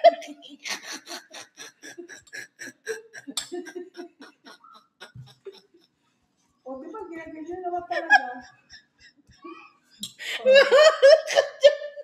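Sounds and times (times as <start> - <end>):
woman laughing breathily: 0.0 - 5.9, 8.0 - 12.0.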